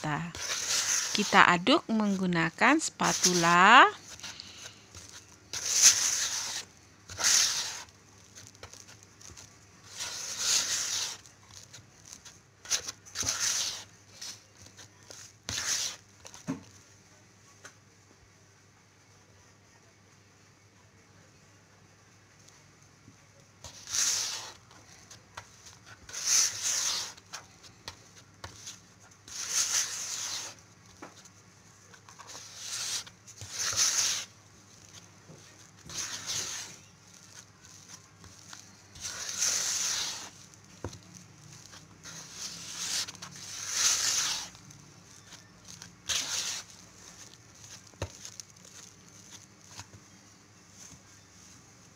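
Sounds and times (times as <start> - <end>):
spatula scraping dough in bowl: 0.0 - 16.5, 23.6 - 50.0.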